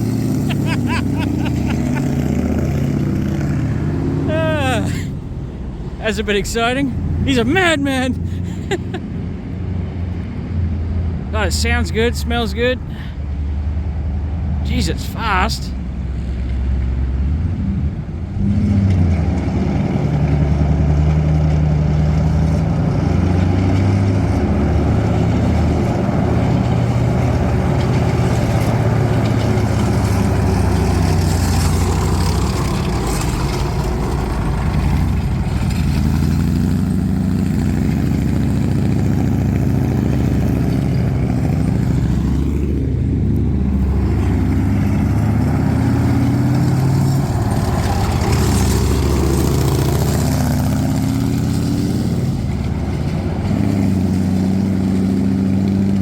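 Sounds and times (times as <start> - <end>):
tank engine revving: 0.0 - 56.0.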